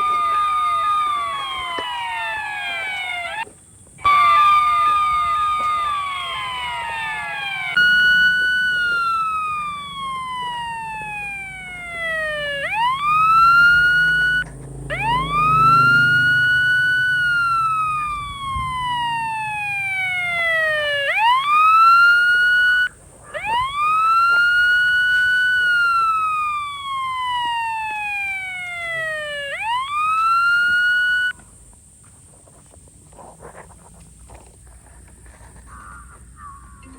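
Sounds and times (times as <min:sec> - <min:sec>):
electronic siren wailing: 0:00.0 - 0:03.4, 0:04.0 - 0:31.3.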